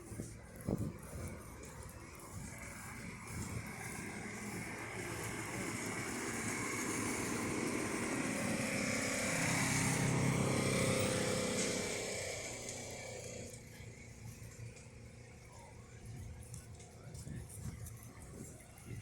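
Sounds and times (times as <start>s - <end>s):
vehicle engine passing by: 0.0s - 18.1s.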